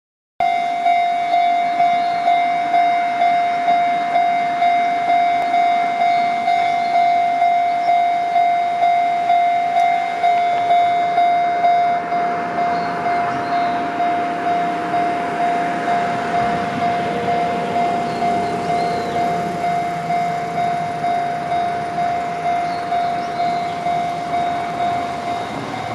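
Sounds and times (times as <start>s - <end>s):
level-crossing warning bell: 0.4s - 25.9s.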